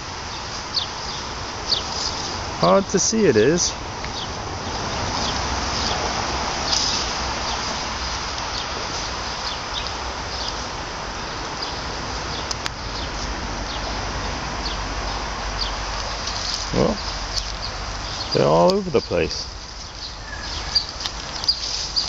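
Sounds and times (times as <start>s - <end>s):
outdoor background hiss: 0.0s - 22.0s
small birds chirping: 0.0s - 22.0s.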